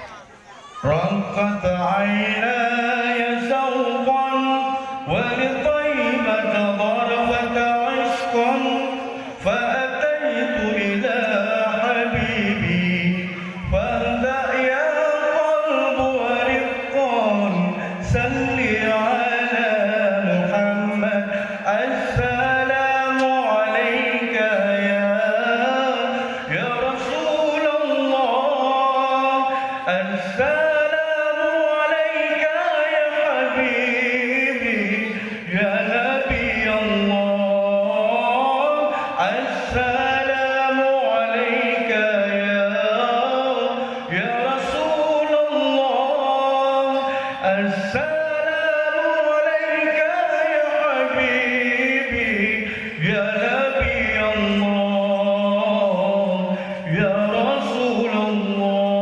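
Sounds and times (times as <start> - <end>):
man singing ornamented notes: 0.0 - 59.0.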